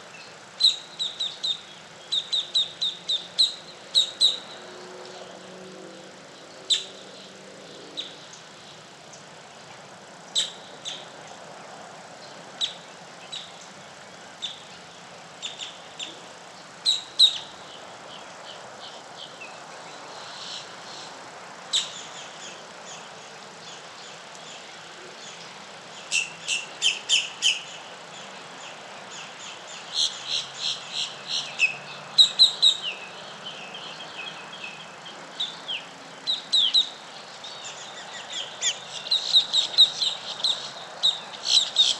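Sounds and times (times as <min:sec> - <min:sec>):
faint background hiss: 0:00.0 - 0:41.9
wild birds chirping: 0:00.0 - 0:41.9.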